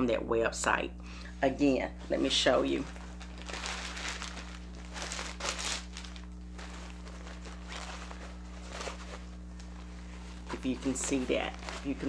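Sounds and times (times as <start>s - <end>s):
steady low hum: 0.0s - 12.0s
silk bag rustling: 2.0s - 12.0s.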